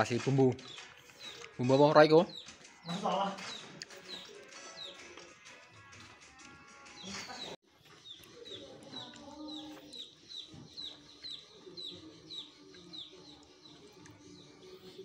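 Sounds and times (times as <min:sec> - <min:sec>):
chicks peeping: 0:00.0 - 0:05.5, 0:07.0 - 0:15.0.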